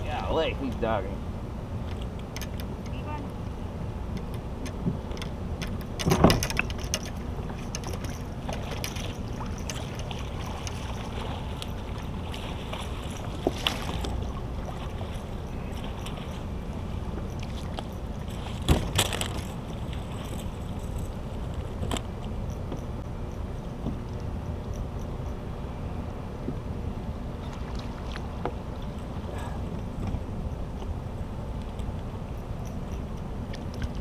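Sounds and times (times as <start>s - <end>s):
water around kayak: 0.0s - 34.0s
wind: 0.0s - 34.0s.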